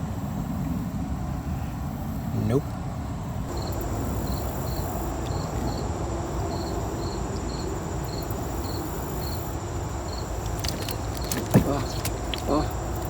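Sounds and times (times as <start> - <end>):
insects buzzing and chirping: 1.2 - 13.0.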